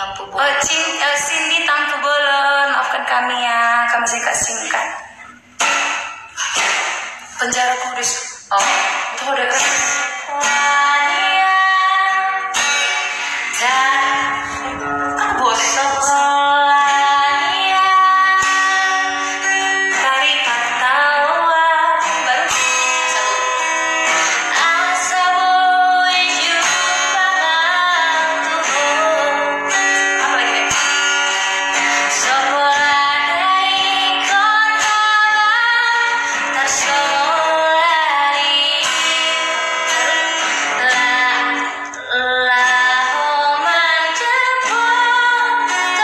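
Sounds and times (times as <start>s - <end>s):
woman singing: 0.0s - 5.1s, 7.4s - 46.0s
acoustic guitar: 0.0s - 46.0s.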